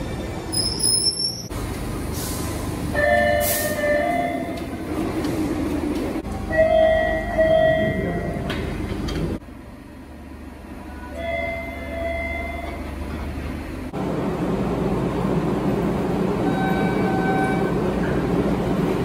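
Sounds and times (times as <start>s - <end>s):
low rumble of subway cars: 0.0s - 19.0s.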